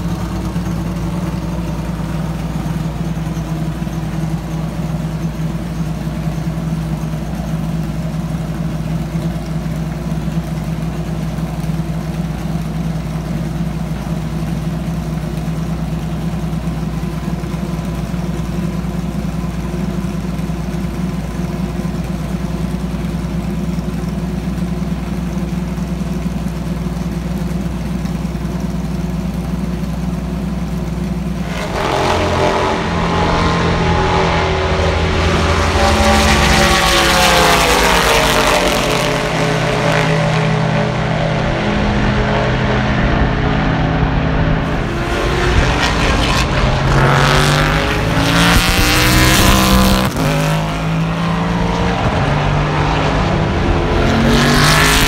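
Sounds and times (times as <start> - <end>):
race car engine idling: 0.0 - 55.0.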